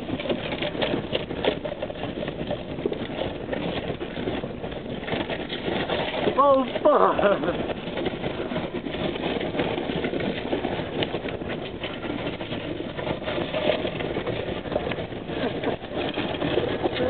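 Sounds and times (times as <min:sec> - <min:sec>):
gravel crunching under tyres: 0:00.0 - 0:17.0
vehicle engine running under load: 0:00.0 - 0:17.0.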